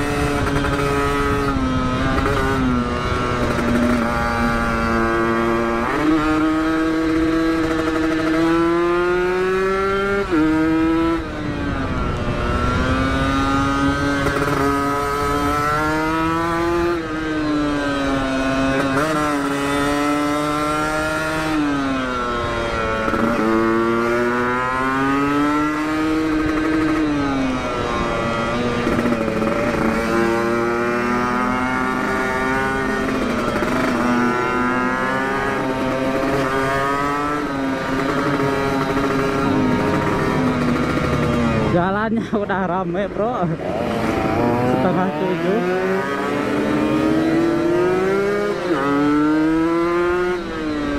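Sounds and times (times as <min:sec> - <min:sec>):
two-stroke motorcycle revving: 0:00.0 - 0:50.9.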